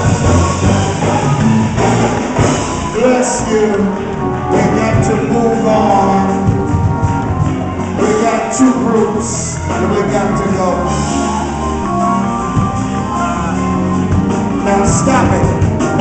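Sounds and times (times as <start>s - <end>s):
church band playing with drums: 0.0s - 16.0s
people singing or shouting: 2.4s - 16.0s.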